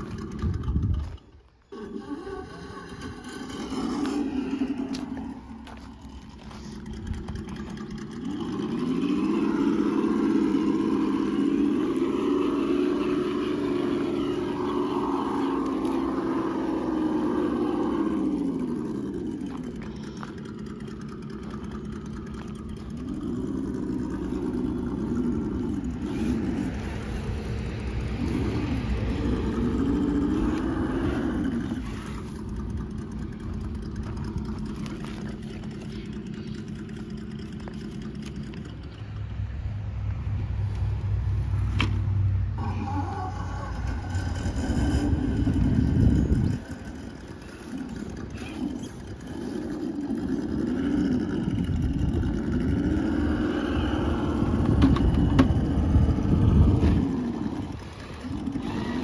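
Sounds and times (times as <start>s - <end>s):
steady low hum: 0.0s - 59.0s
toy truck electric motor whining: 1.7s - 32.8s, 42.6s - 59.0s.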